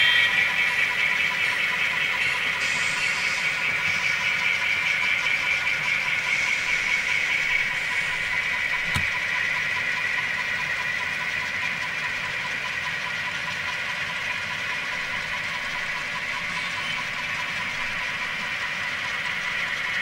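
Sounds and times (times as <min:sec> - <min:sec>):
model train engine sound: 0:00.0 - 0:20.0.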